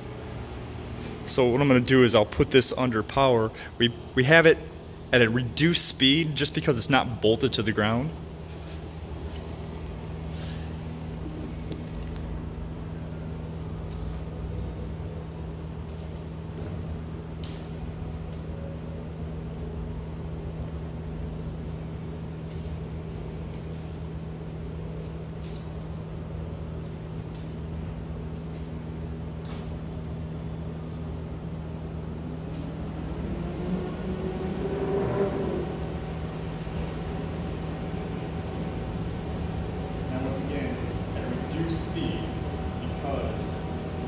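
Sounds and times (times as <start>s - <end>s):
rising whine: 0.0s - 44.0s.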